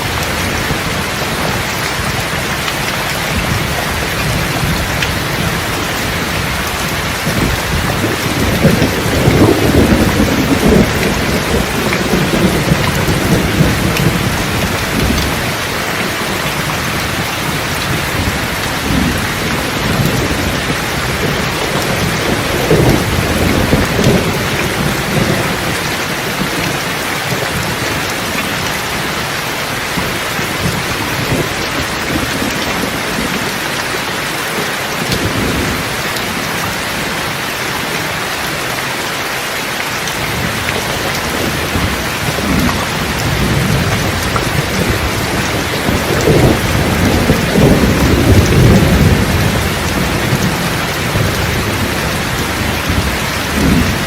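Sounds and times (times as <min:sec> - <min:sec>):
thunder rumbling: 0:00.0 - 0:37.8, 0:40.1 - 0:54.0
steady rain falling: 0:00.0 - 0:54.0.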